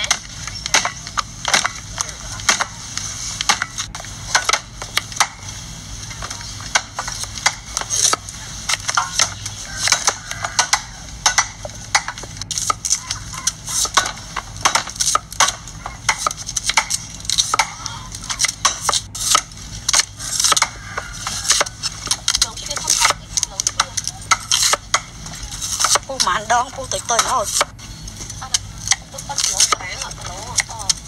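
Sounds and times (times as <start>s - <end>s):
knives chopping vegetables on wood: 0.0s - 2.8s, 3.4s - 5.5s, 6.2s - 31.0s.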